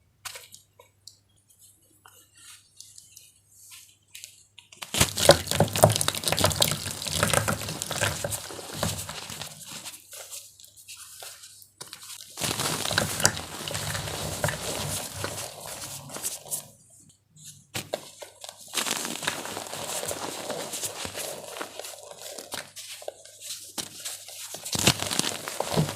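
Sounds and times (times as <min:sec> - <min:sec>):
wet chalk crackling and crunching: 0:00.2 - 0:25.9.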